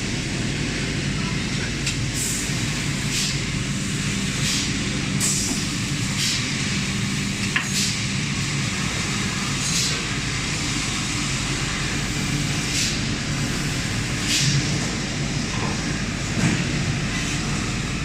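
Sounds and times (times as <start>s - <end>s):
welding machine hum: 2.3s - 18.0s.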